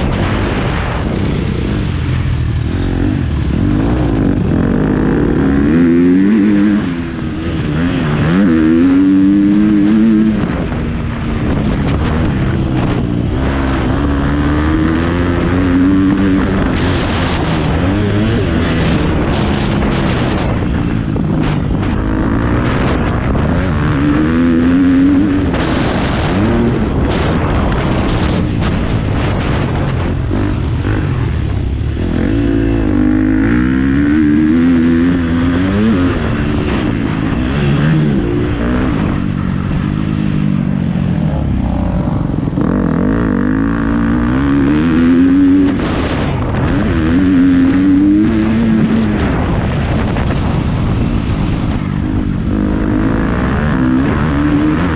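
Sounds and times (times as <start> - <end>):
motocross bike engine revving: 0.0 - 54.9.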